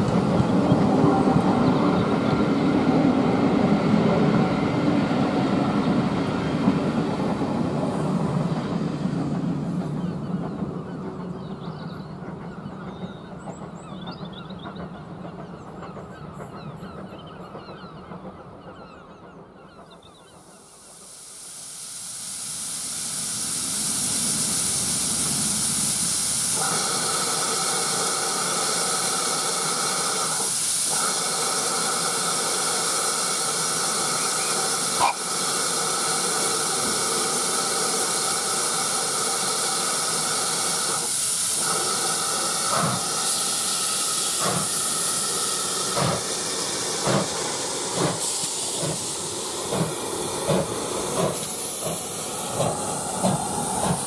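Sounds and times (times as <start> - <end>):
steam hissing: 0.0 - 14.1, 20.2 - 54.0
steam locomotive exhaust beats: 0.0 - 54.0.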